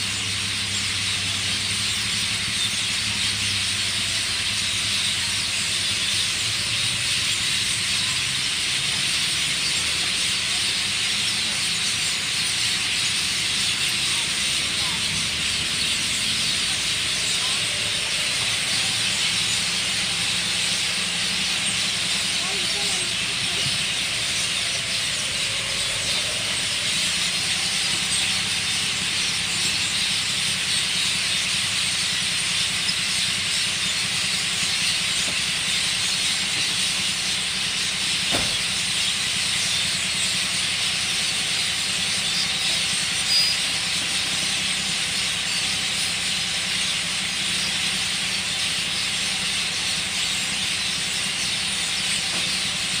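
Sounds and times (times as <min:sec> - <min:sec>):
flock of small birds chirping: 0:00.0 - 0:53.0.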